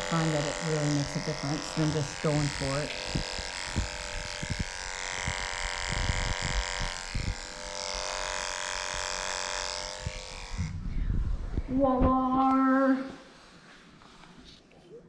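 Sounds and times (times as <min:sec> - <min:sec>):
electric clippers humming: 0:00.0 - 0:13.1.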